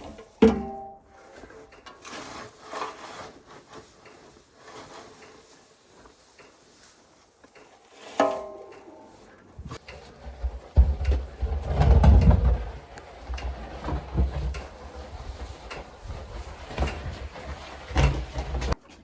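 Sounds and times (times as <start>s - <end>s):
chaff rustling and knocks: 0.0s - 18.8s.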